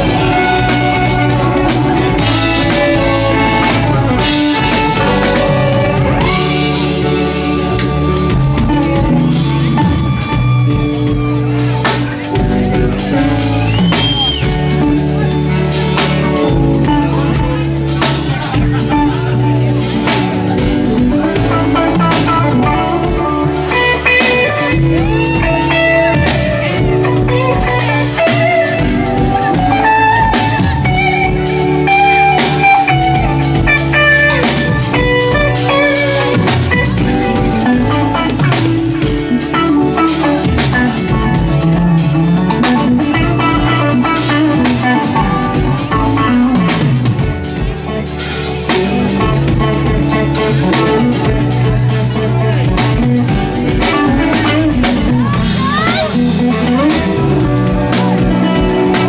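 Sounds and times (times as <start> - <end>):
live rock band playing: 0.0 - 59.0
sliding lead guitar line: 0.0 - 59.0.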